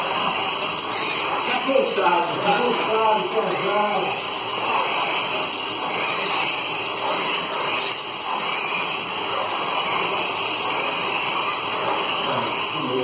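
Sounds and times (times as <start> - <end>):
slot car motors whirring: 0.0 - 13.0.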